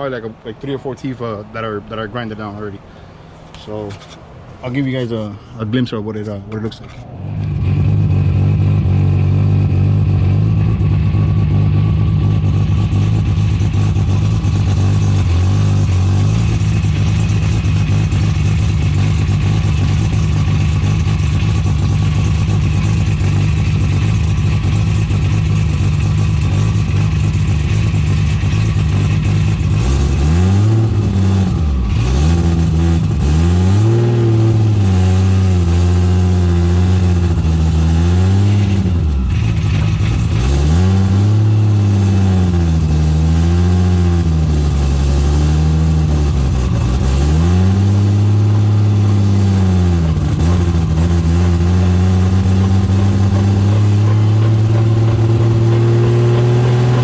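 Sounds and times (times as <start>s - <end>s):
car drivetrain droning: 0.0s - 57.0s.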